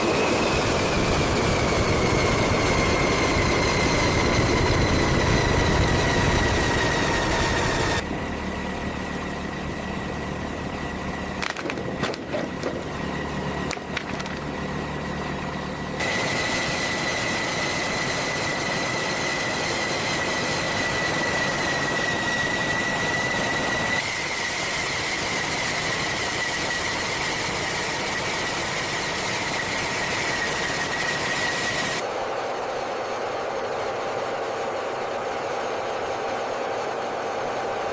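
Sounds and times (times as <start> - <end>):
high-pitched machine whine: 0.0 - 37.9.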